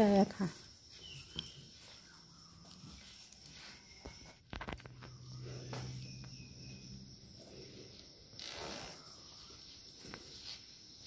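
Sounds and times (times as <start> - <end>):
quiet footsteps: 0.0 - 11.0.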